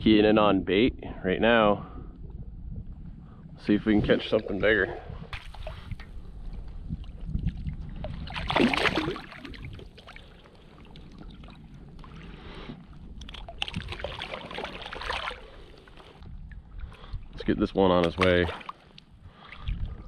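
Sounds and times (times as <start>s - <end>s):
water sloshing and splashing: 3.8s - 20.0s.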